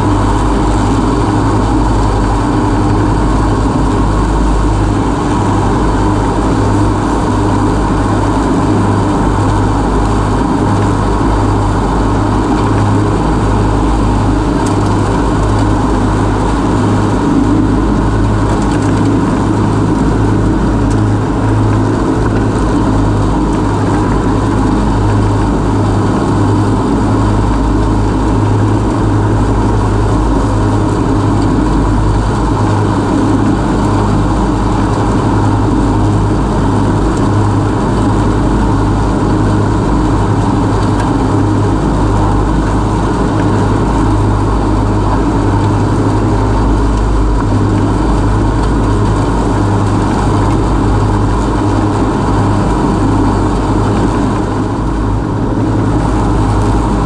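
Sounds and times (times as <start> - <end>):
ride-on mower mowing grass: 0.0 - 57.0.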